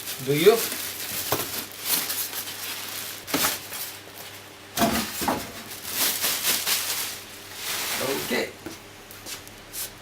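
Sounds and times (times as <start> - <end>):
packaging rustling and scraping: 0.0 - 8.5.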